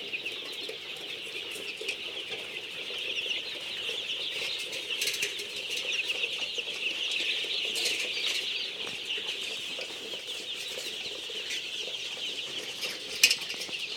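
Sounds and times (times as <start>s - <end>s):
chickens clucking: 0.0s - 13.9s
chicks cheeping: 0.0s - 13.9s.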